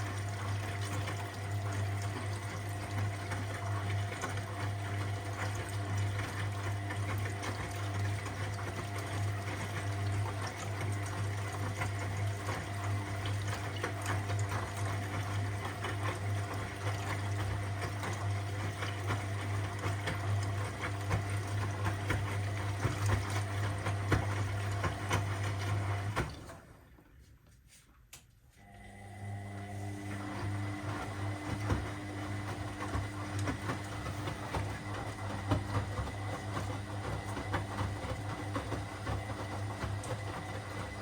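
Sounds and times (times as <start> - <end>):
washing machine motor hum: 0.0 - 27.8, 28.5 - 41.0.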